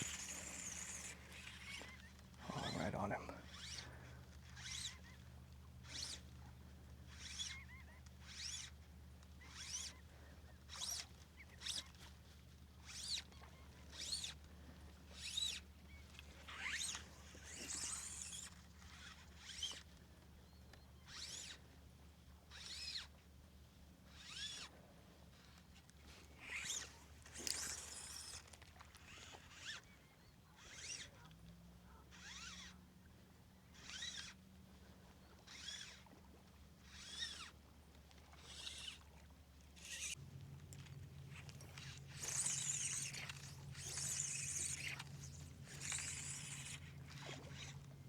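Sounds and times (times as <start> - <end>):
fishing line zipping through guides: 0.0 - 20.0, 21.0 - 21.6, 22.4 - 23.2, 24.0 - 32.8, 33.6 - 48.0.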